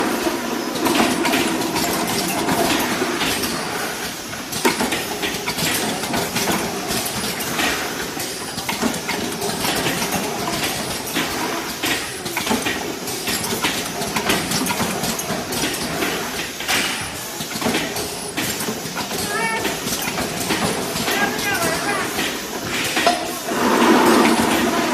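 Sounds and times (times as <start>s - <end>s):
filling machine running: 0.0s - 24.9s
machine clicks and clatters: 0.0s - 24.9s.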